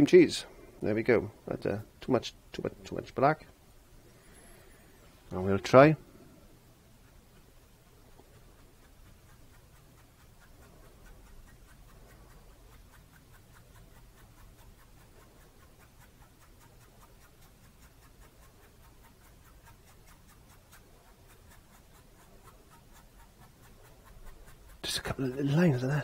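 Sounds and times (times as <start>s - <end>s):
paintbrush scratching on canvas: 4.2s - 26.0s.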